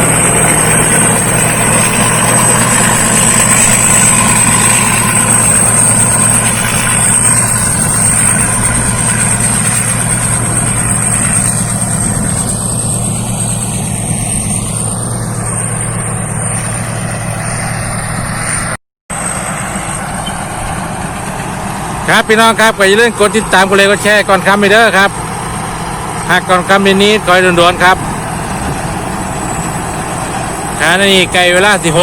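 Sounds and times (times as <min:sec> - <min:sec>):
combine harvester engine hum: 0:00.0 - 0:32.0
high machinery whine: 0:00.0 - 0:32.0.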